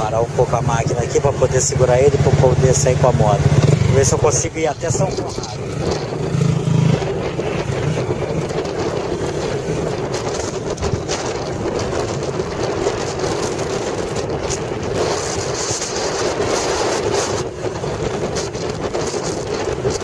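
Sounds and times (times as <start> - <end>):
motorcycle engine running: 0.0 - 20.0
wind on microphone: 0.0 - 20.0.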